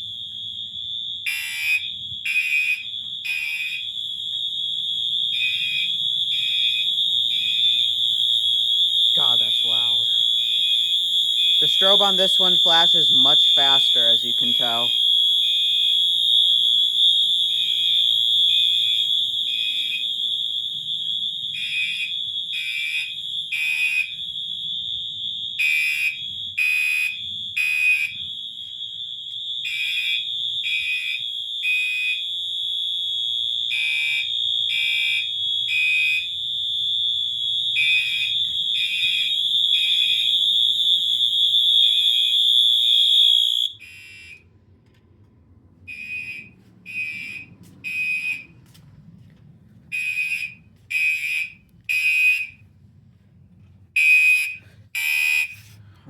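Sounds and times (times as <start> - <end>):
fire alarm horn beeps: 0.0 - 44.5, 45.9 - 48.8, 49.9 - 52.6, 54.0 - 55.8
steady fire alarm horn: 0.0 - 56.0.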